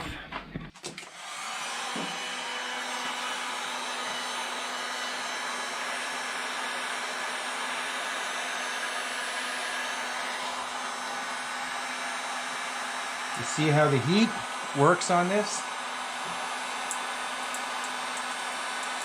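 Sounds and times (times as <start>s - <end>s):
heat gun blowing: 1.0s - 19.0s.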